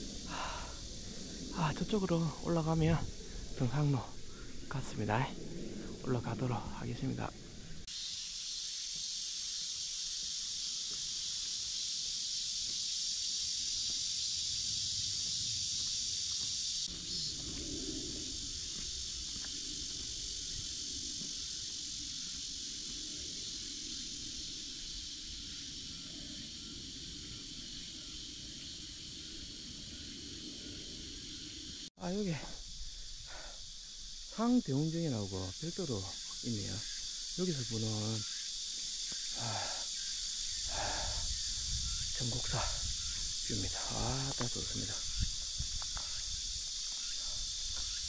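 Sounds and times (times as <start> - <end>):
cicadas chorus: 0.0 - 48.0.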